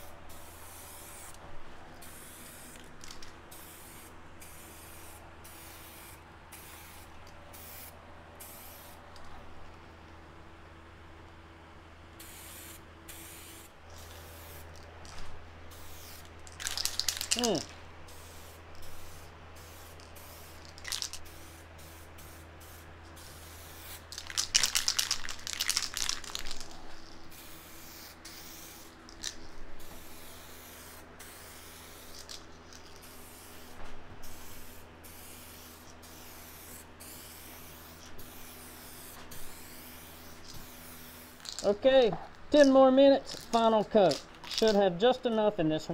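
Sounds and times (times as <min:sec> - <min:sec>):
aerosol can spraying hiss: 0:00.0 - 0:01.4, 0:02.0 - 0:09.0, 0:12.2 - 0:14.7, 0:15.7 - 0:41.6.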